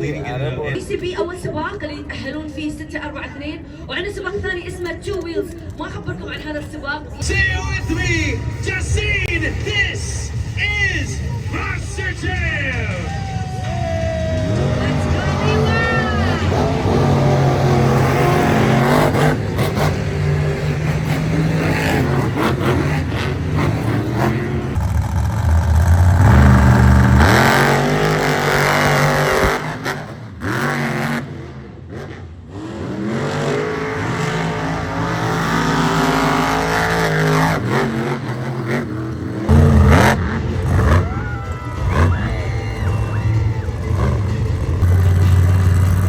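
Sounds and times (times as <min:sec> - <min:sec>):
truck engines revving hard: 0:00.0 - 0:01.9, 0:07.2 - 0:46.0.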